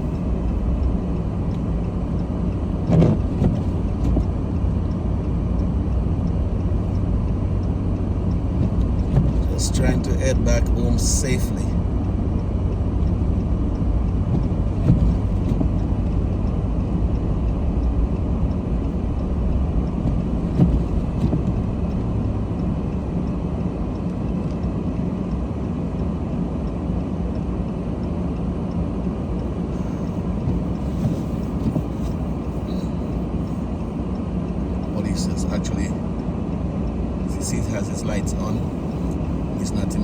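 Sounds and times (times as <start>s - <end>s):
car engine and road noise: 0.0s - 40.0s.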